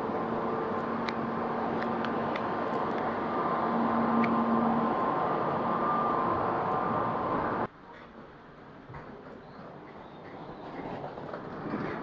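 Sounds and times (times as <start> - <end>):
train ventilation hum and whir: 0.0 - 12.0.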